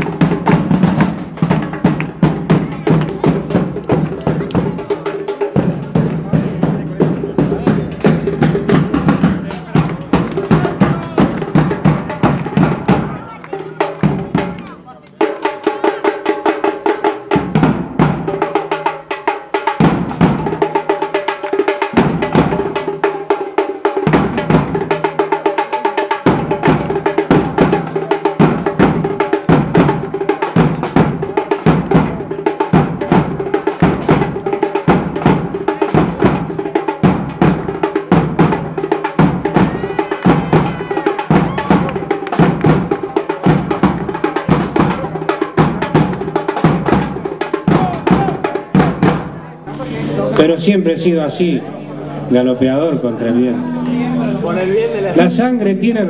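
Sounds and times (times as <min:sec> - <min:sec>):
drum group playing: 0:00.0 - 0:56.0.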